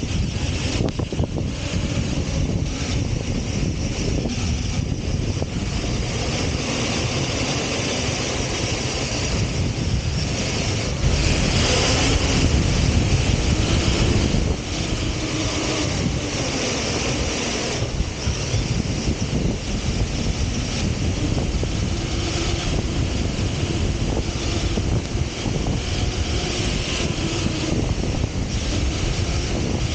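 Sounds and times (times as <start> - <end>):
rc truck motor: 0.0 - 29.9
tyres churning sand: 0.0 - 29.9
wind rushing over microphone: 0.0 - 29.9.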